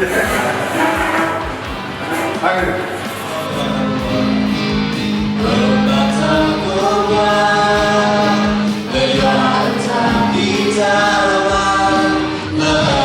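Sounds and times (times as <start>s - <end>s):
group singing gospel song: 0.0s - 13.0s.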